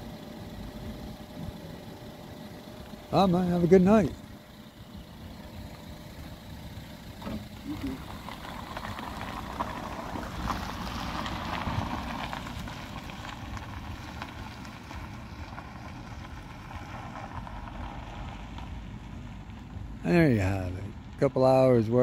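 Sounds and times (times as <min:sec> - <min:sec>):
car driving off: 0:00.0 - 0:22.0.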